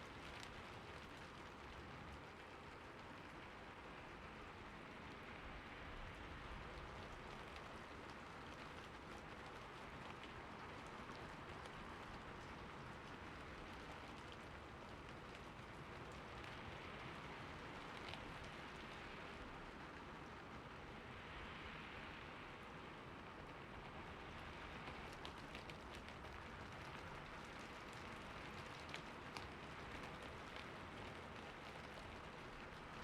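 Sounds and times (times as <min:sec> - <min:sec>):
soft hiss of rain: 0:00.0 - 0:33.0.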